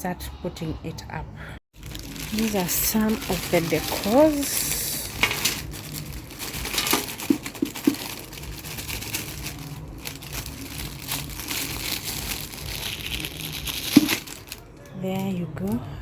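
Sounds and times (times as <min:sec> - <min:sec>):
packaging crinkling and rustling: 0:01.8 - 0:15.0.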